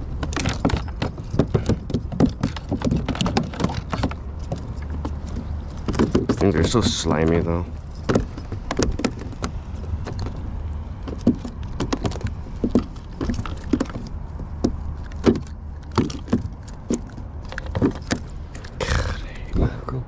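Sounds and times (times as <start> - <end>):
fishing tackle clicking and jangling: 0.0 - 19.6
steady low rumble: 0.0 - 20.0.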